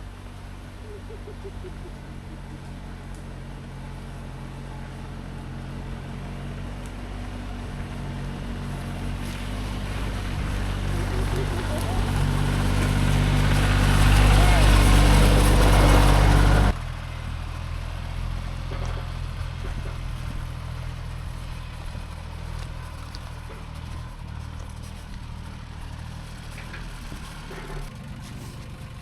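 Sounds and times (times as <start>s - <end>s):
engine idling: 0.0s - 29.0s
vehicle engine driving: 0.0s - 29.0s.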